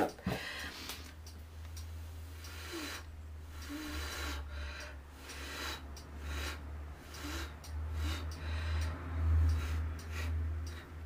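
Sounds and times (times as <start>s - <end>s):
steady low hum: 0.0s - 11.0s
person breathing: 0.2s - 1.3s, 2.3s - 11.0s.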